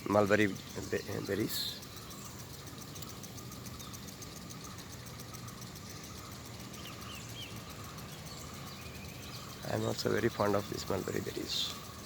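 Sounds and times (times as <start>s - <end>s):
faint bird chirps: 0.0s - 12.0s
insects chirping: 0.0s - 12.0s
low steady hum: 0.0s - 12.0s.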